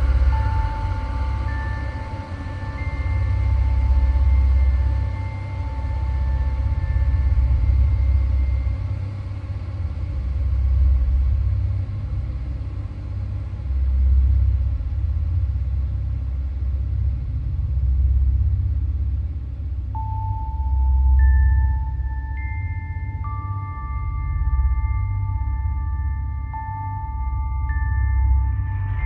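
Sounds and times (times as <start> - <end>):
deep low rumbling drone: 0.0 - 29.0.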